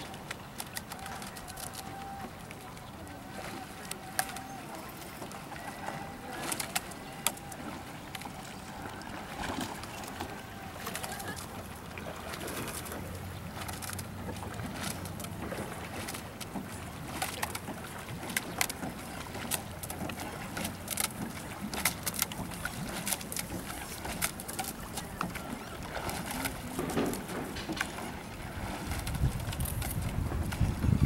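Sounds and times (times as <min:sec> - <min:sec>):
oar blades in water: 0:00.0 - 0:31.0
sharp clicks from oars: 0:00.0 - 0:31.0.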